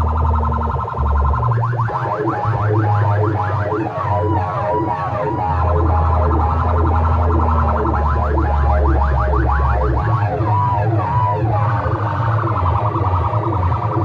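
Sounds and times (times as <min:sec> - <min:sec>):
heavy bass drone: 0:00.0 - 0:14.0
loud dj music: 0:00.0 - 0:14.0
siren-like sweeping tones: 0:00.0 - 0:14.0.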